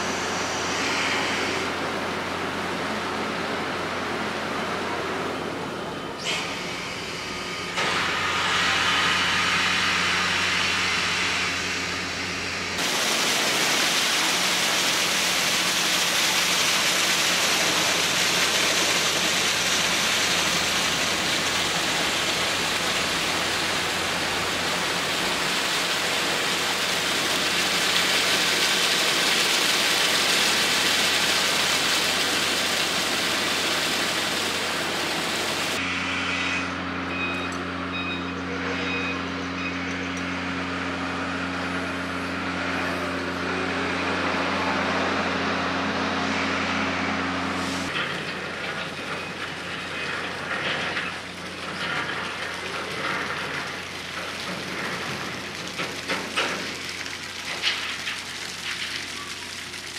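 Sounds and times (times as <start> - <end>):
ship engine hum: 0.0 - 59.9.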